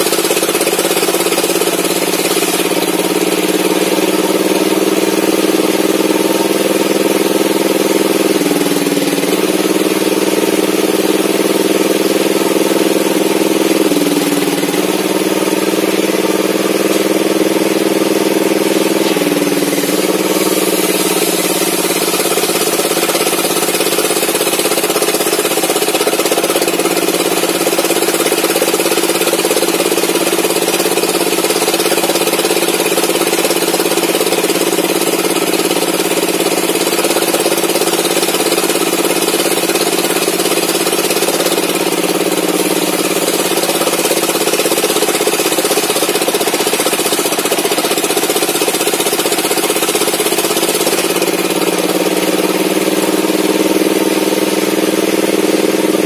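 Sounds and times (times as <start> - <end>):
engine-driven circular saw running: 0.0 - 56.0.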